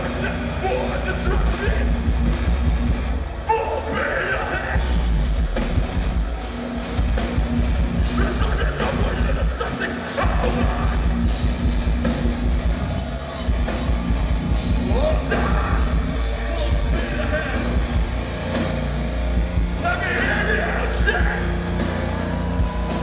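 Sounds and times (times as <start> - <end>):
metal band playing live: 0.0 - 23.0.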